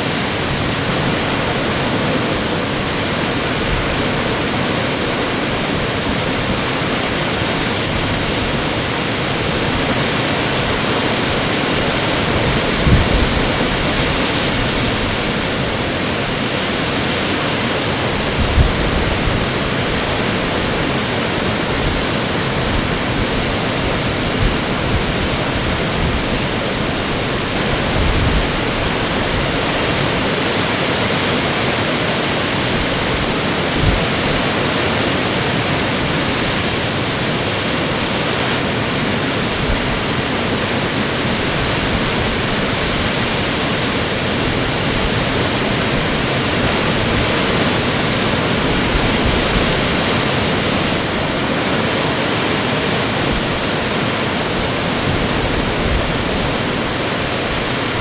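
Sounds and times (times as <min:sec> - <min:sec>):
storm waves breaking on shore: 0:00.0 - 0:58.0.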